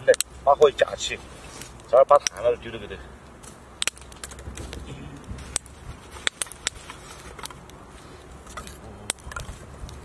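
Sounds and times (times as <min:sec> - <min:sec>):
charcoal fire crackling: 0:00.0 - 0:10.0
low fire rumble: 0:00.0 - 0:10.0.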